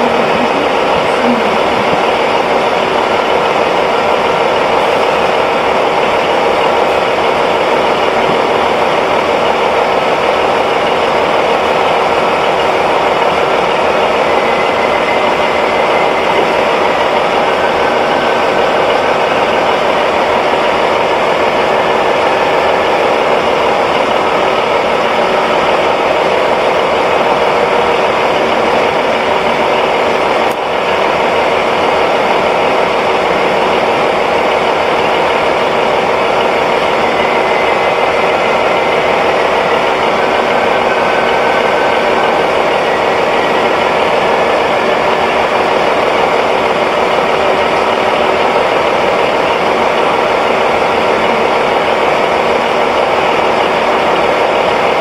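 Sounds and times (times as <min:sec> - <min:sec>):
diesel railcar engine droning: 0:00.0 - 0:55.0.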